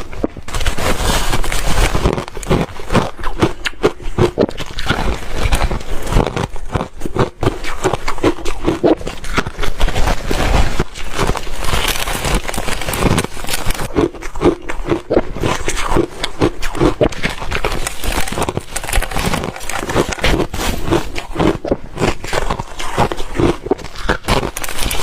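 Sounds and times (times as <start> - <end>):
ice crunching between teeth: 0.0 - 25.0.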